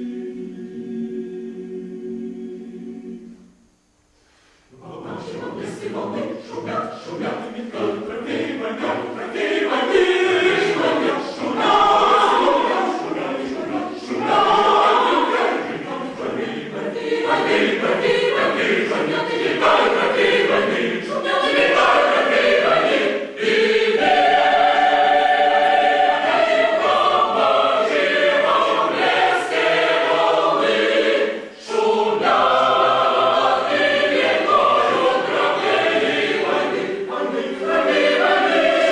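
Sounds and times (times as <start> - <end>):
choir singing a cappella: 0.0 - 3.7, 4.7 - 38.9.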